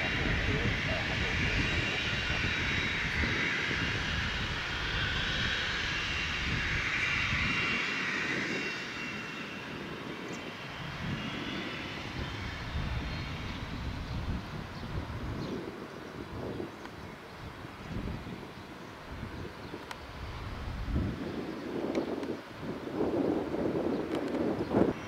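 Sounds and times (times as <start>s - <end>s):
jet engines whine and hiss: 0.0s - 25.0s.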